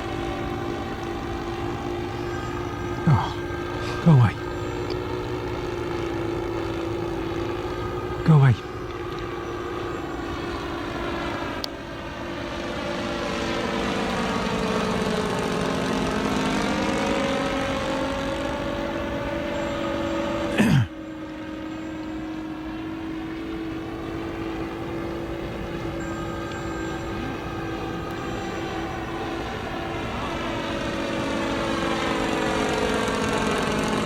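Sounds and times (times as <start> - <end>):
model plane engines droning: 0.0 - 34.0.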